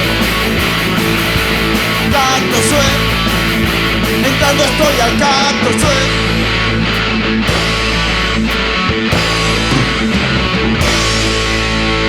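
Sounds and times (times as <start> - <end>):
drum and cymbal hits: 0.0 - 6.4, 7.0 - 12.0
electric guitar chords: 0.0 - 12.0.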